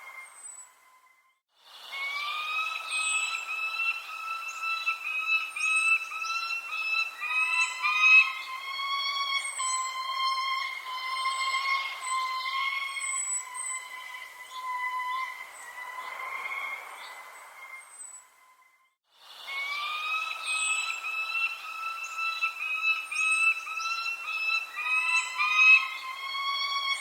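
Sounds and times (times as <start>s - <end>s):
wavering whistle-like tone: 0.0s - 27.0s.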